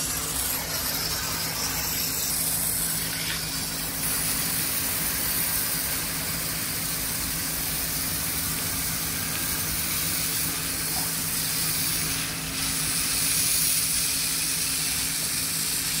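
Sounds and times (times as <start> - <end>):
sprayer pump humming: 0.0 - 16.0
water jet hissing on glass: 0.0 - 16.0.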